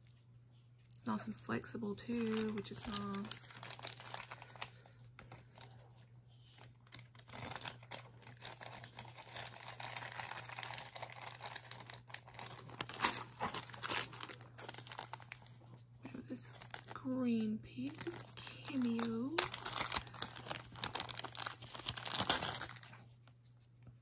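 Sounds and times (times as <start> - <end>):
plastic bag crinkling: 0.8 - 23.5.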